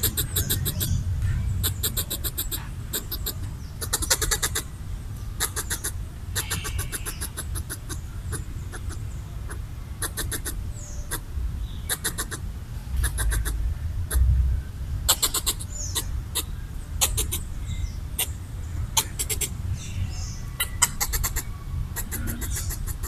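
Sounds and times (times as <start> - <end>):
squirrel chattering: 0.0 - 14.3, 15.0 - 23.0.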